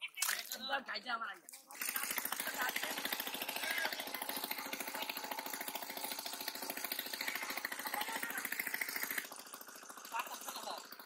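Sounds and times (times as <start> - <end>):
small engine running: 1.6 - 11.0.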